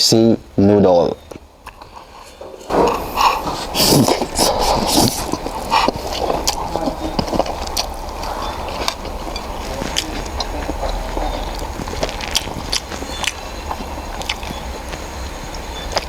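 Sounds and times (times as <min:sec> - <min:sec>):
steady low hum: 0:00.0 - 0:16.0
person chewing noodles: 0:02.9 - 0:16.0.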